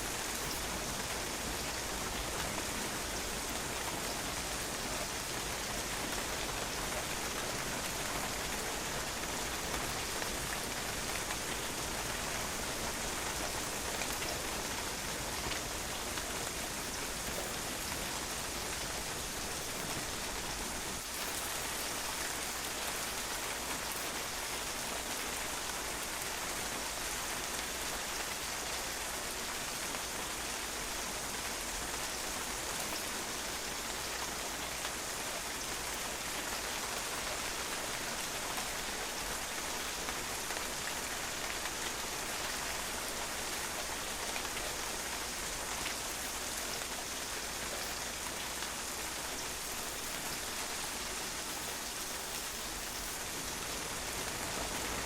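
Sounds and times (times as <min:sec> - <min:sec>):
rain pattering on patio: 0:00.0 - 0:55.0.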